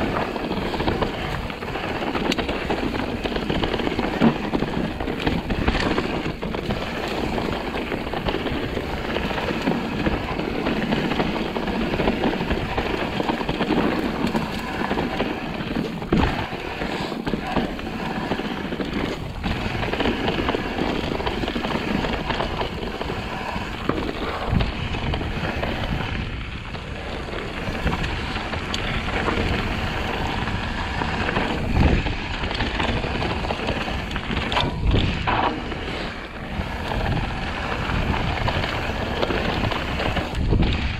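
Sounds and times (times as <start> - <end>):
bike rattling: 0.0 - 40.9
wind on microphone: 0.0 - 40.9.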